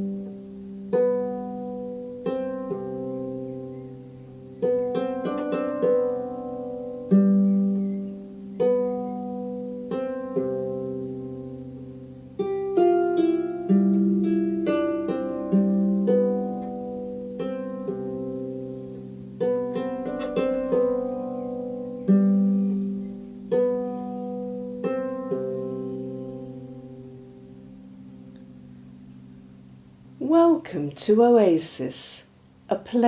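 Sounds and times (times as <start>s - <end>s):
solo harp playing: 0.0s - 30.2s.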